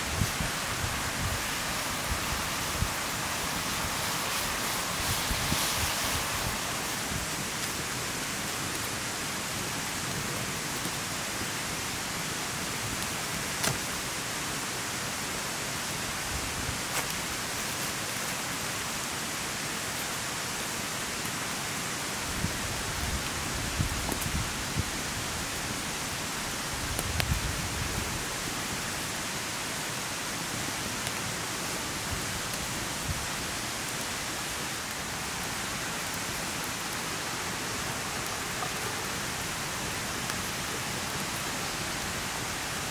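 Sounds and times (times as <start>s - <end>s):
campfire hissing and crackling: 0.0s - 42.9s.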